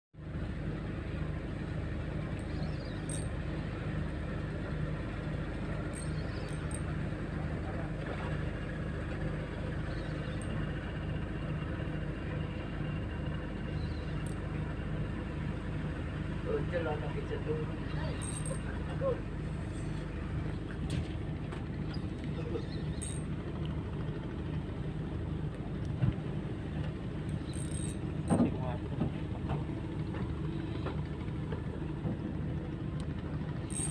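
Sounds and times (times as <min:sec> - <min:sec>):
small boat engine throbbing: 0:00.2 - 0:33.9.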